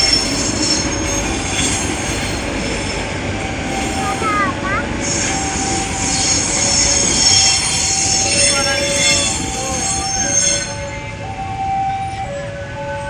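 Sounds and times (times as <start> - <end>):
train wheels squealing: 0.0 - 4.4, 5.0 - 12.5
train rumble: 0.0 - 13.0.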